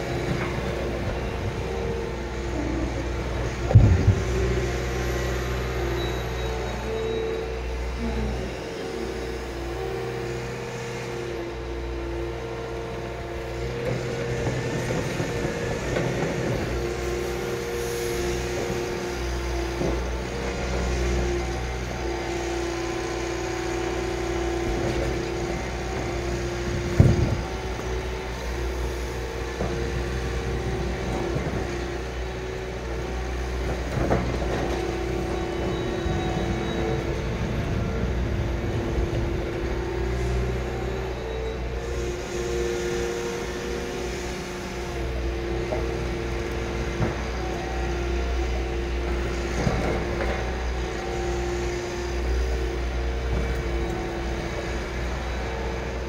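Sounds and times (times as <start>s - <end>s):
excavator running: 0.0s - 56.0s.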